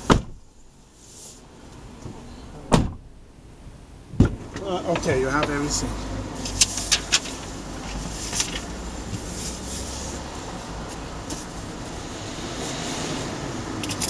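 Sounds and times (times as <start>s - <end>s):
car engine idling: 0.0s - 12.3s.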